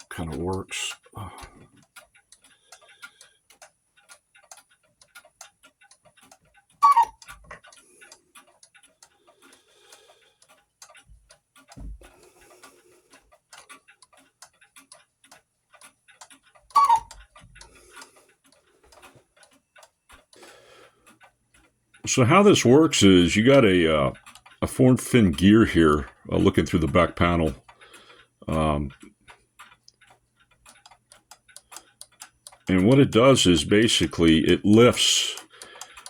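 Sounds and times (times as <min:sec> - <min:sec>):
clock ticking: 0:00.0 - 0:36.0
sharp clock clacks: 0:00.0 - 0:36.0.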